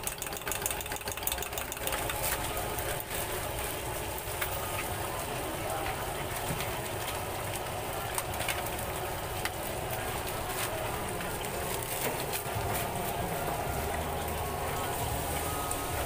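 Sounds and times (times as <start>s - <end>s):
oil sizzling in a wok: 0.0s - 16.0s.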